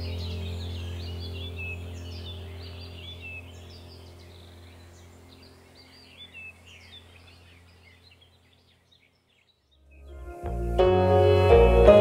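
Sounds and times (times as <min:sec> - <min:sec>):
birds chirping and whistling: 0:00.0 - 0:10.2
low steady hum: 0:00.0 - 0:12.0.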